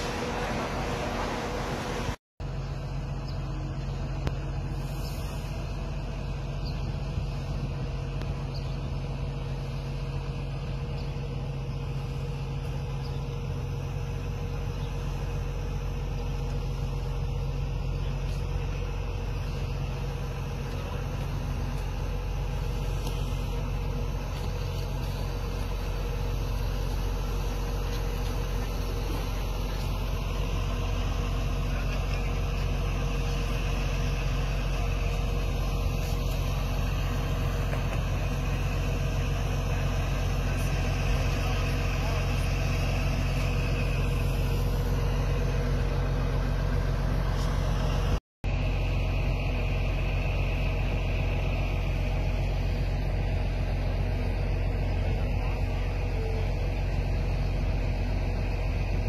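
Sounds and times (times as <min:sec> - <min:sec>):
engine droning: 0:00.0 - 0:59.0.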